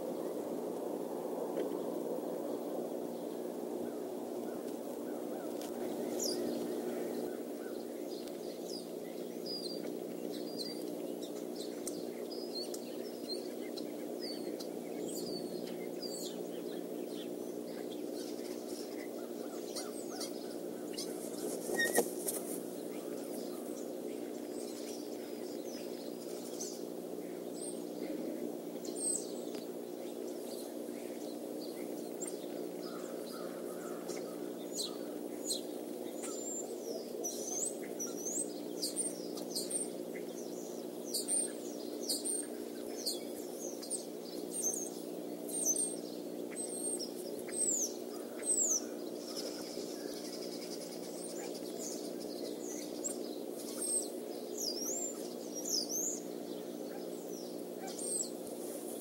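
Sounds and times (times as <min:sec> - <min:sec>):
small birds chirping: 0:00.0 - 0:59.0
steady low hum: 0:00.0 - 0:59.0.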